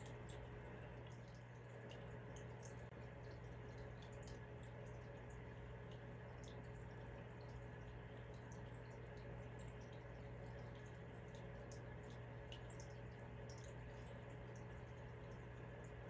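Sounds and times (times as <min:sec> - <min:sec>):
pump hum: 0:00.0 - 0:16.0
water trickling and dripping: 0:00.0 - 0:16.0.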